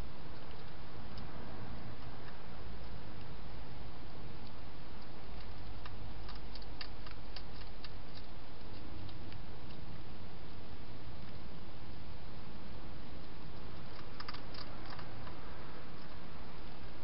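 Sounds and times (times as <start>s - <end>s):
hedgehog crunching dry food: 0.3s - 1.3s, 1.9s - 17.0s.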